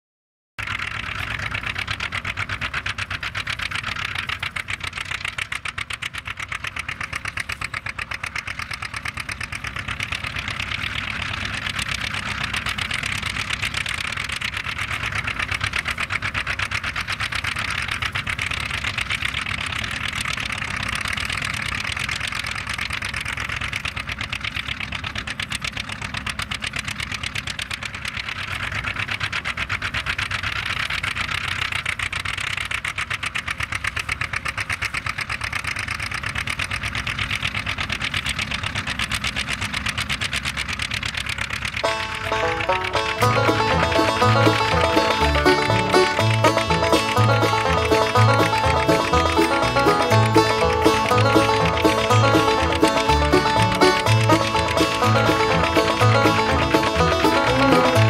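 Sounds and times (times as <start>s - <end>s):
tractor engine popping exhaust: 0.6s - 58.0s.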